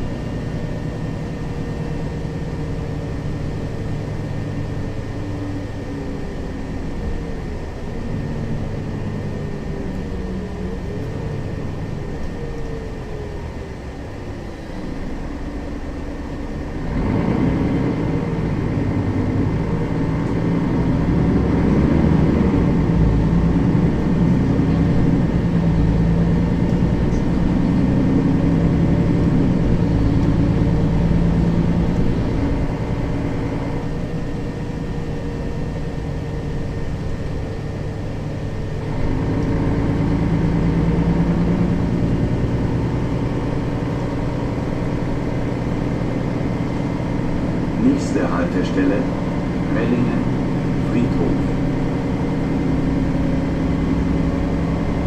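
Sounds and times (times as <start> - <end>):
bus diesel engine running: 0.0 - 55.0
drivetrain whine: 0.0 - 55.0.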